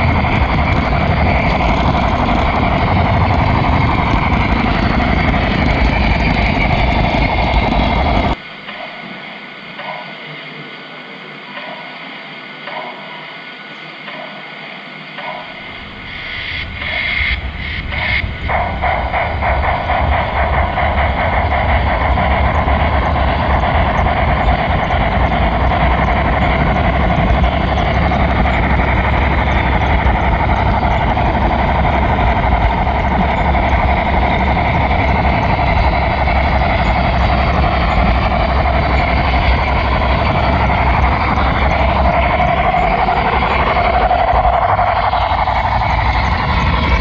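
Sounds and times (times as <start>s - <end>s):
model train motor whine: 0.0s - 8.4s, 15.6s - 47.0s
metal wheels rattling on track: 0.0s - 9.1s, 15.2s - 47.0s.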